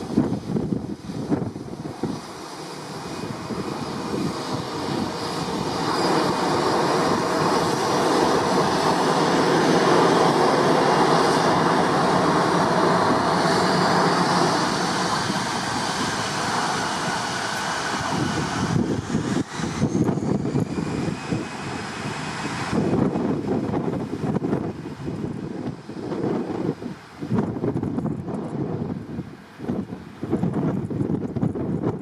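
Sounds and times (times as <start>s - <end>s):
airplane passing overhead: 0.0s - 32.0s.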